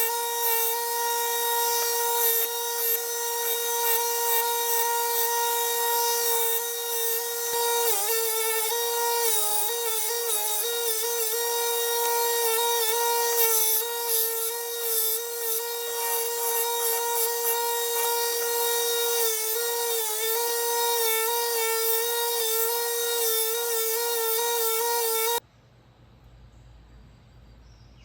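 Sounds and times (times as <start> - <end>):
belt grinder whine: 0.0 - 25.4
gritty grinding hiss: 0.0 - 25.4.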